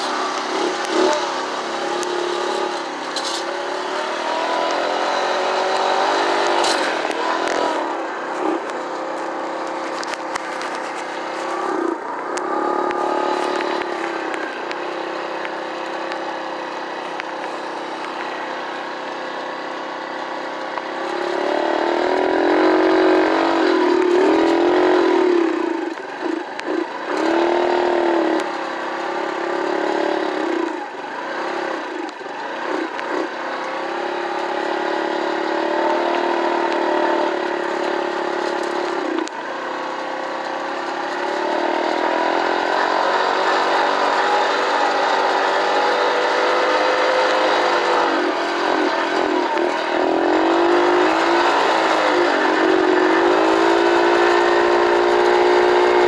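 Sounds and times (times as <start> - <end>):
mini bike engine revving: 0.0 - 56.0.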